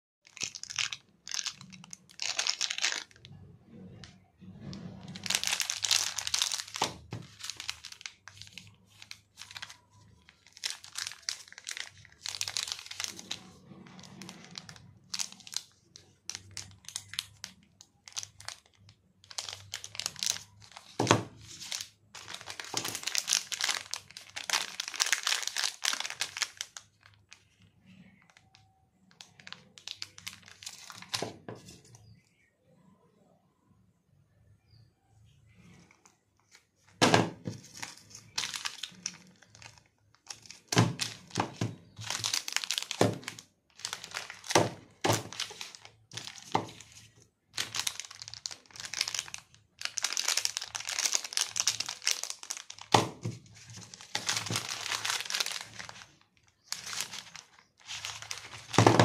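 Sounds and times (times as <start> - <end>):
wrappers crinkling: 0.2 - 31.8, 35.5 - 59.0.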